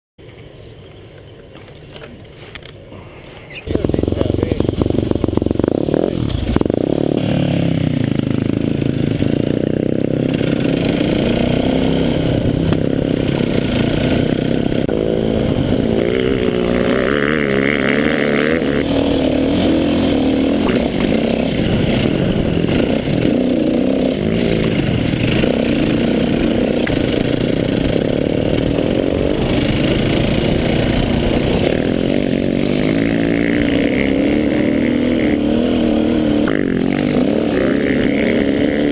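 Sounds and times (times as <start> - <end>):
dirt bike engine revving: 3.7 - 38.9.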